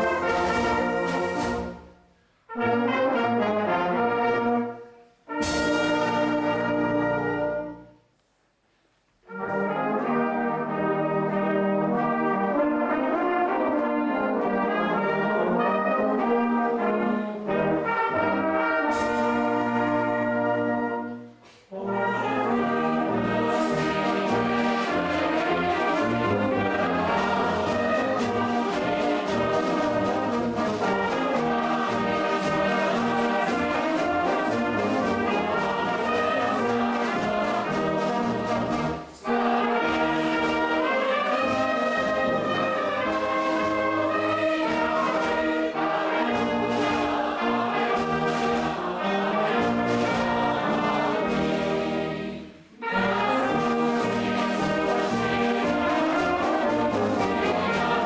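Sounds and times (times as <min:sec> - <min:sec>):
brass band with flutes playing march: 0:00.0 - 0:08.0, 0:09.2 - 0:58.0.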